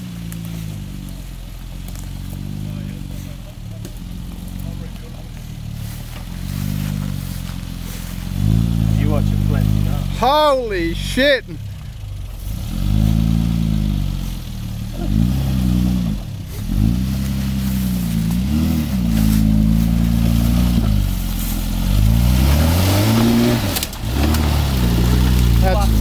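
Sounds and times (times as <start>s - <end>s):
engine revving under load: 0.0s - 26.0s.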